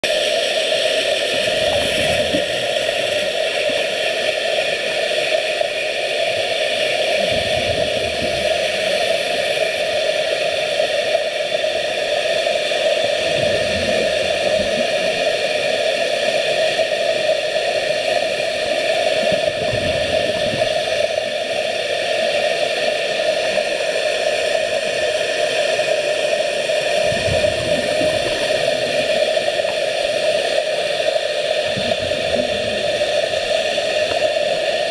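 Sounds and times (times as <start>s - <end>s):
scuba regulator bubbles gurgling: 0.0s - 34.9s
underwater hiss: 0.0s - 34.9s.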